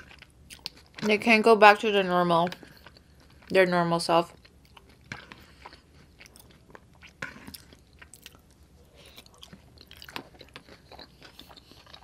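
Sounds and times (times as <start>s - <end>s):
person chewing: 0.0s - 1.1s, 2.5s - 3.5s, 4.3s - 12.0s.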